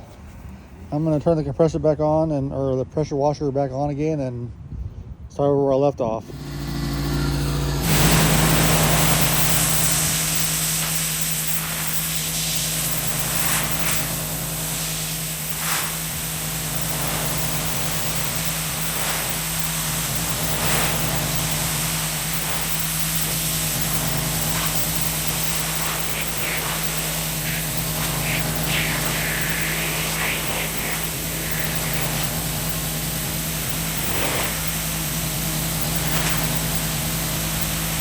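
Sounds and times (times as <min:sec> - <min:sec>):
pressure washer hum: 0:06.2 - 0:38.0
water jet spraying: 0:06.2 - 0:38.0.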